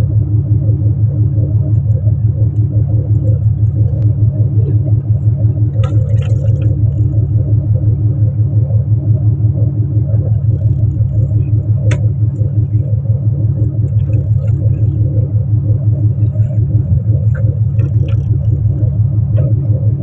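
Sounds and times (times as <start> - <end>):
boat engine throbbing: 0.0 - 20.0.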